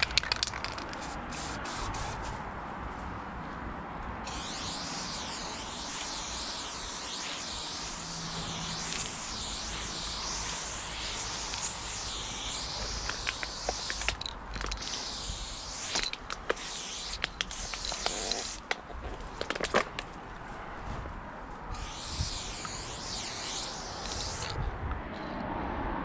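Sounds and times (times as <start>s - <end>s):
spray paint can hissing: 0.0s - 2.4s, 4.2s - 19.9s, 21.7s - 24.6s.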